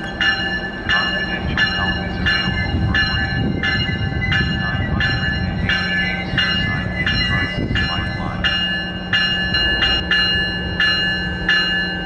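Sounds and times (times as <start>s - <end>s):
locomotive bell ringing: 0.0s - 12.0s.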